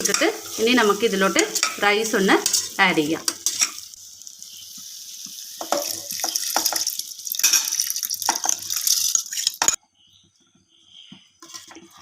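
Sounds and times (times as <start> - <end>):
spoon knocking and scraping a pan: 0.0 - 3.9, 4.7 - 9.8, 11.0 - 12.0
rice sizzling in a pan: 0.0 - 9.6.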